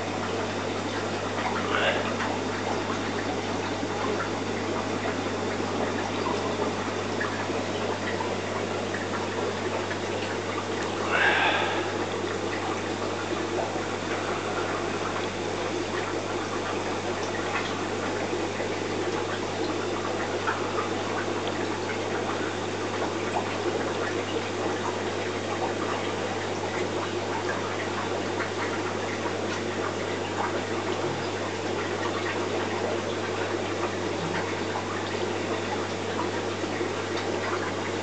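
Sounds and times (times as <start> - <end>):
aquarium filter pump hum: 0.0 - 38.0
moving water: 0.0 - 38.0.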